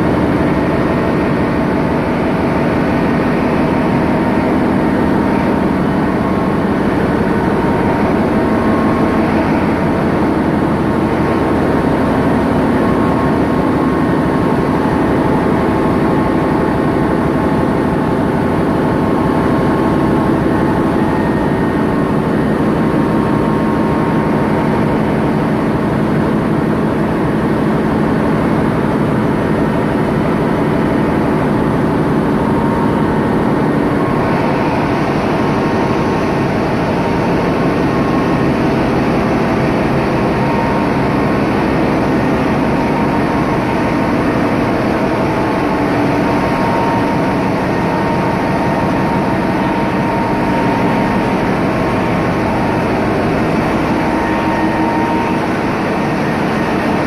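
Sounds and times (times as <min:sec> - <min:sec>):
diesel machinery roaring: 0:00.0 - 0:57.0
steady machine hums: 0:00.0 - 0:57.0.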